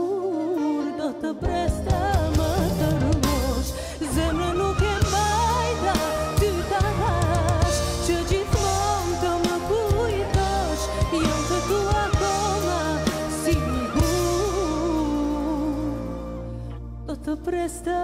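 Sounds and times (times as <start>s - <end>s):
live band with bass and drums: 0.0s - 17.4s
woman singing pop ballad: 0.0s - 18.0s.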